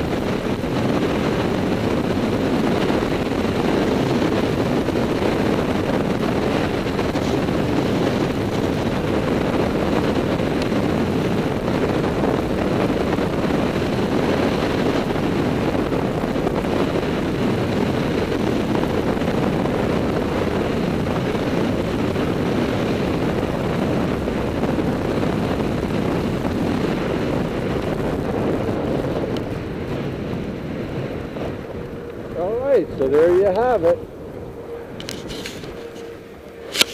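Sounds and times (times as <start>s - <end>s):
wind rushing on microphone: 0.0s - 36.9s.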